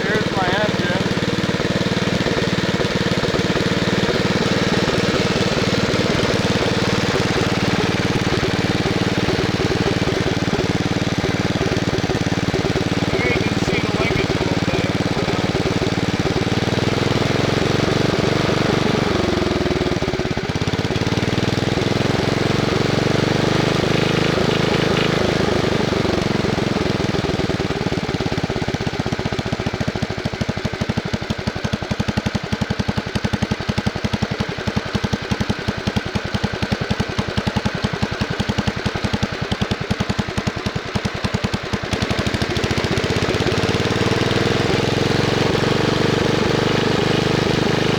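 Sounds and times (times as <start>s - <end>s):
garden tractor engine running: 0.0s - 47.9s.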